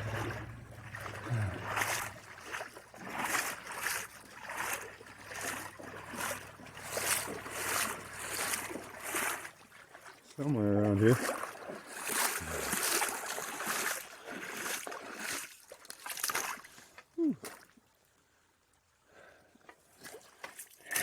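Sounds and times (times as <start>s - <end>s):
footsteps wading through water: 0.0s - 17.9s, 19.7s - 21.0s.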